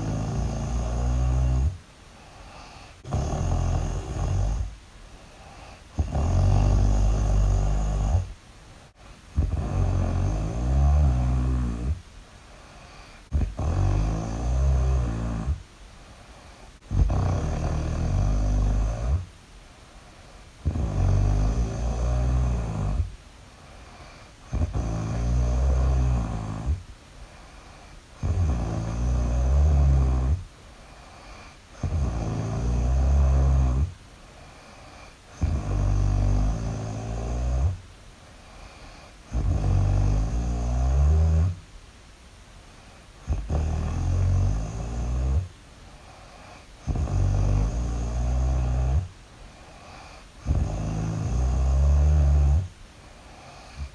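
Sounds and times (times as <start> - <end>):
loud snoring: 0.0 - 8.4, 9.3 - 12.0, 12.7 - 15.6, 16.8 - 19.3, 20.6 - 23.2, 23.8 - 37.8, 38.4 - 41.6, 42.9 - 53.9.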